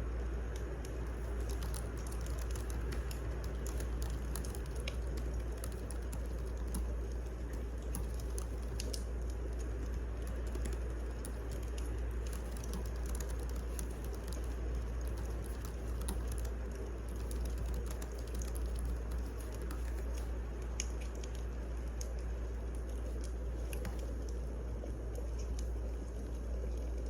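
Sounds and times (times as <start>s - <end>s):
wood fire crackling: 0.1s - 27.0s.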